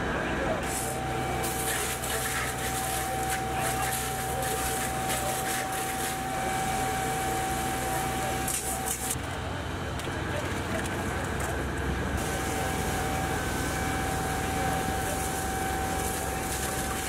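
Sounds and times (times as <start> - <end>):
fire engine motor and pump drone: 0.0 - 17.0.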